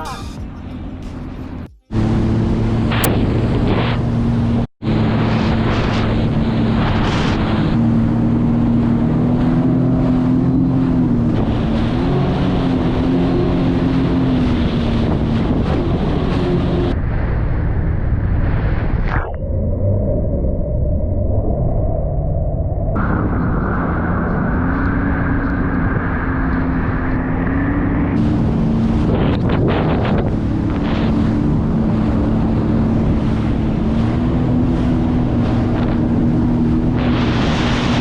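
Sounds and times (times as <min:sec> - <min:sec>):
jet ski engine running: 0:00.0 - 0:17.0, 0:23.0 - 0:38.0
wind buffeting microphone: 0:02.7 - 0:38.0.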